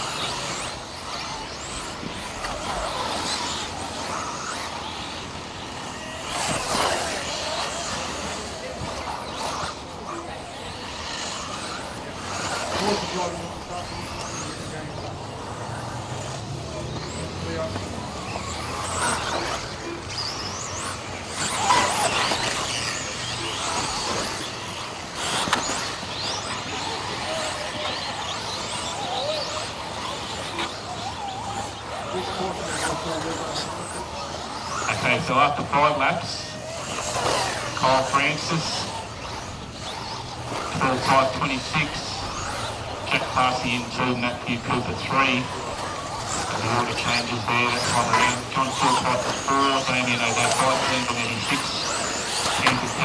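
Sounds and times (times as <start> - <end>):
electric rc cars whining: 0.0 - 53.0.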